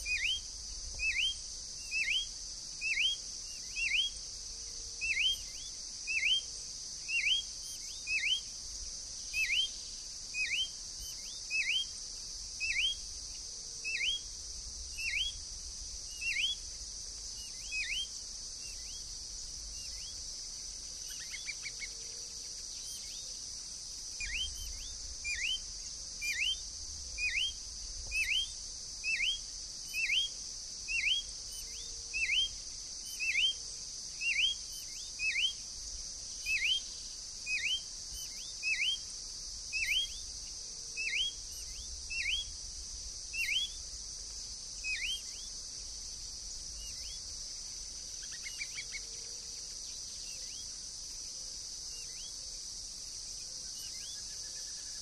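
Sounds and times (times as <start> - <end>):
insects hissing: 0.0 - 55.0.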